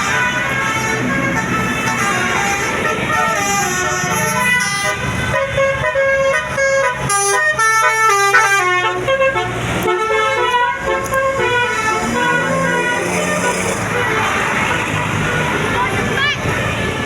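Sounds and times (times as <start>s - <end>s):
musical air horn playing a tune: 0.0s - 17.0s.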